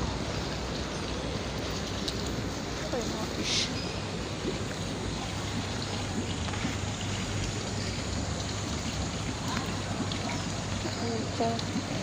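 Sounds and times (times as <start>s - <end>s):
low steady hum: 0.0s - 12.0s
pond water running: 0.0s - 12.0s.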